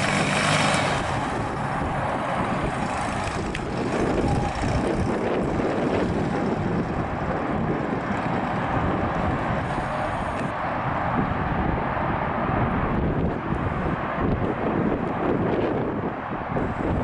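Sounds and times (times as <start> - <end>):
car engine driving away: 0.0 - 14.5
wind buffeting microphone: 0.0 - 17.0.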